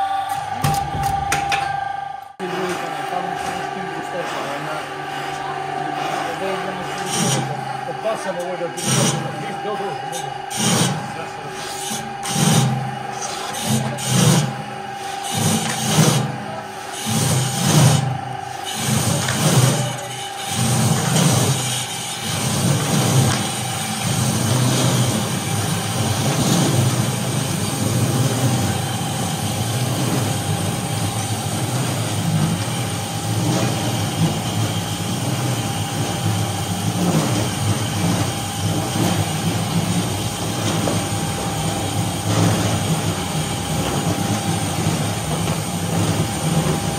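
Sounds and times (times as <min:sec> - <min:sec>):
electric motors humming: 0:00.0 - 0:46.9.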